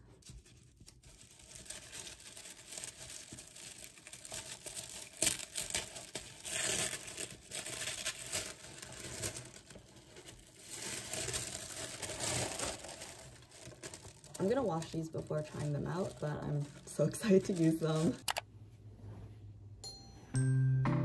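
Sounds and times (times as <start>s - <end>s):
tissue paper crinkling: 0.0s - 18.3s.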